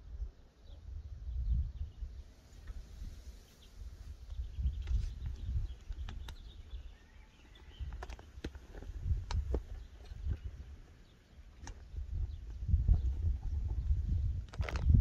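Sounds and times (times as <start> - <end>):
gusty wind buffeting microphone: 0.0 - 10.8, 11.6 - 15.0.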